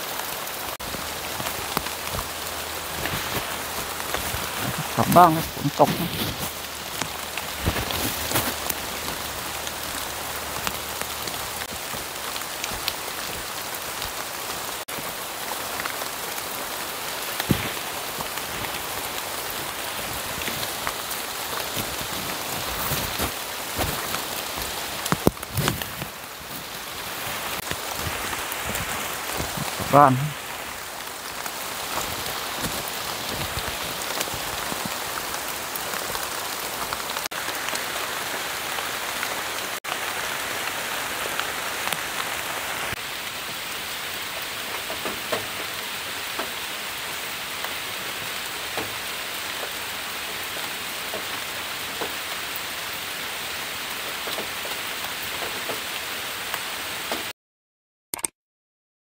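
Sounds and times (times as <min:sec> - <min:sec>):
heavy rain falling: 0:00.0 - 0:57.3
raindrop ticks: 0:00.1 - 0:37.9, 0:38.8 - 0:42.3, 0:42.9 - 0:52.8, 0:54.0 - 0:55.9.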